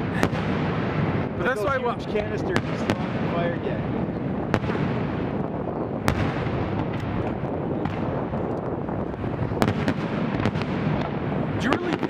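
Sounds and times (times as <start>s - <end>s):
firework sharp cracks: 0.0s - 1.8s, 2.4s - 12.0s
fireworks bursts rumbling: 0.0s - 12.0s.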